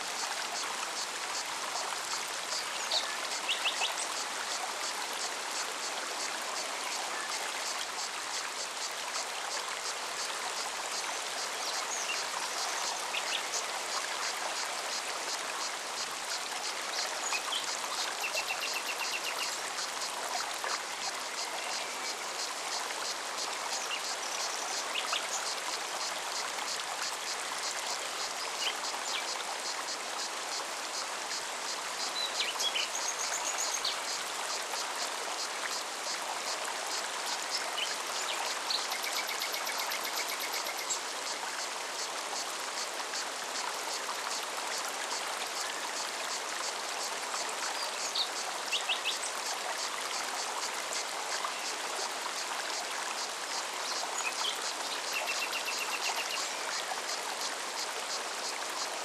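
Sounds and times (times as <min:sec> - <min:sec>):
stream running: 0:00.0 - 0:59.0.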